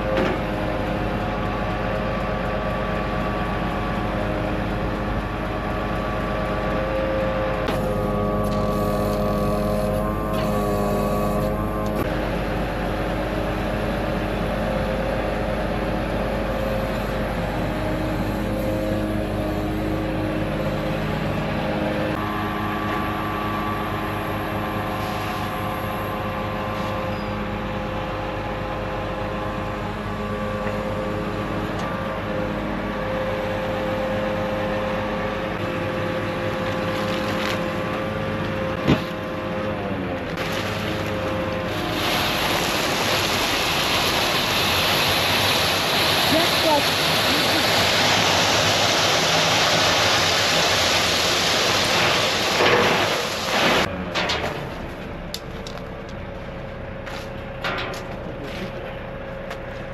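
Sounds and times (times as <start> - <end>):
motor engine running: 0.0 - 53.9.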